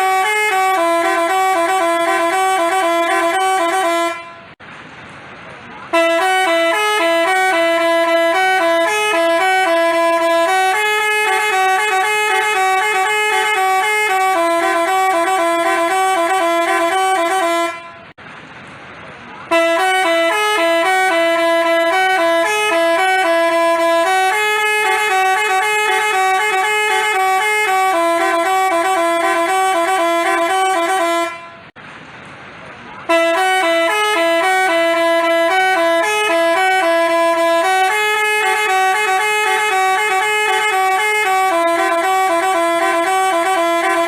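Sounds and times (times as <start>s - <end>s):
multi-tone horn playing a tune: 0.0s - 4.6s, 5.9s - 18.1s, 19.5s - 31.7s, 33.1s - 44.0s.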